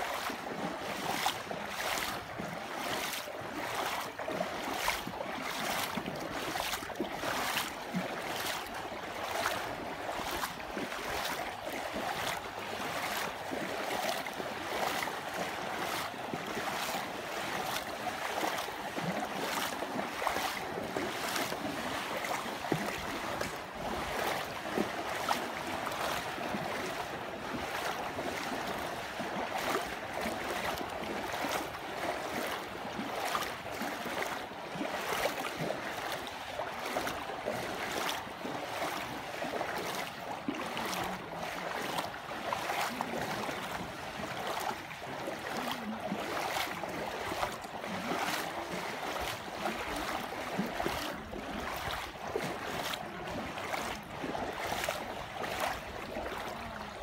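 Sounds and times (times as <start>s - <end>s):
water rushing: 0.0s - 57.0s.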